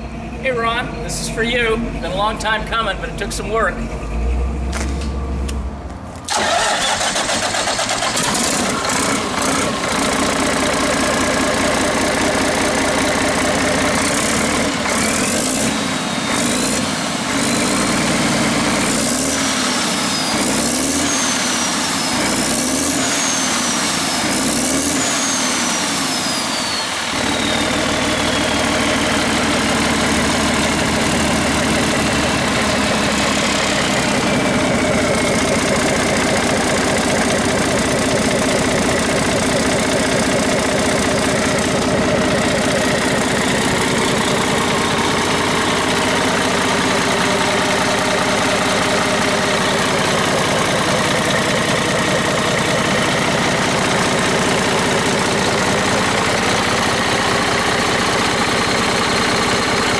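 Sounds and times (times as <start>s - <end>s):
diesel engine starting and revving: 0.0s - 59.9s
turbo whining: 0.0s - 59.9s.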